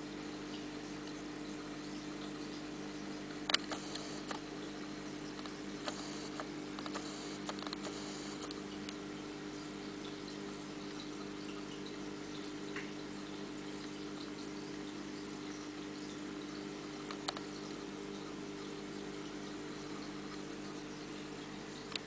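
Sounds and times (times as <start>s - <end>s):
aquarium pump humming: 0.0s - 22.0s
small ticks and drips: 0.0s - 22.0s.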